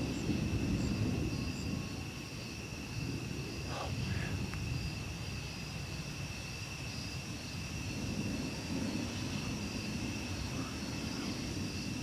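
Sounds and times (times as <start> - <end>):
insects trilling: 0.0 - 12.0
rolling thunder rumble: 0.0 - 12.0.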